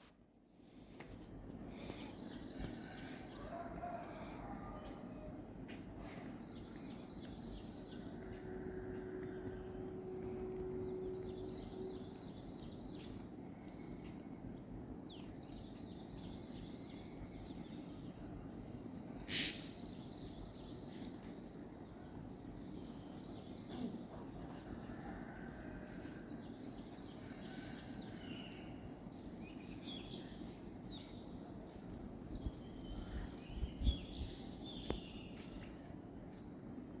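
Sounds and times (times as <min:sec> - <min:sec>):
low background noise: 0:00.0 - 0:37.0.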